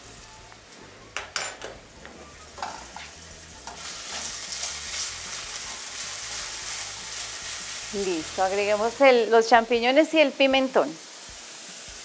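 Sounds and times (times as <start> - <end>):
onion and garlic sizzling: 0.0 - 12.0.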